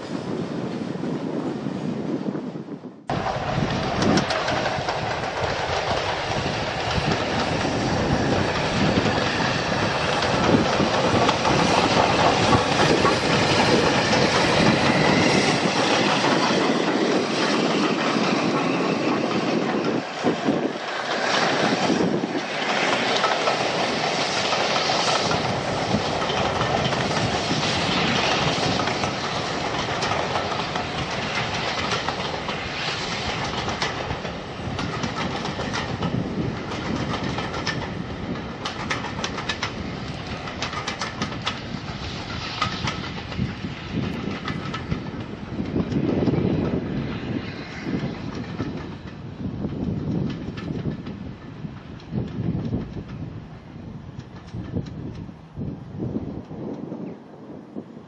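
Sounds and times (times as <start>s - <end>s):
steam train passing: 0.0s - 58.0s
train wheels clickety-clacking: 3.1s - 57.1s.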